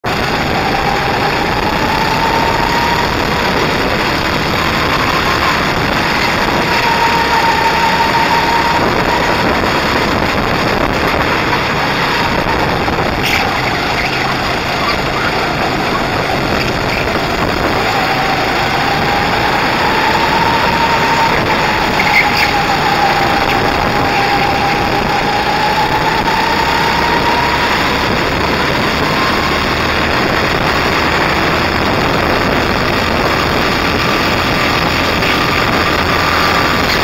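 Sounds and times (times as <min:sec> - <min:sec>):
go-kart engine droning: 0:00.0 - 0:37.0
rush of noise: 0:00.0 - 0:37.0.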